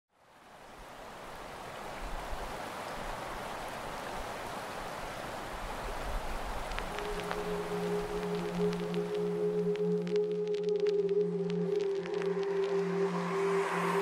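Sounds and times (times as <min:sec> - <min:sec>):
rushing water: 0:00.1 - 0:14.0.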